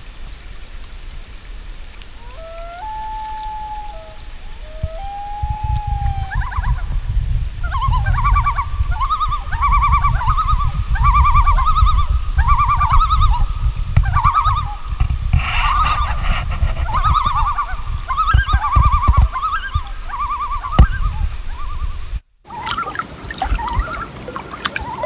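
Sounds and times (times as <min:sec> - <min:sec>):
waterbird calling: 0:00.0 - 0:25.0
wind rumble on microphone: 0:00.0 - 0:25.0.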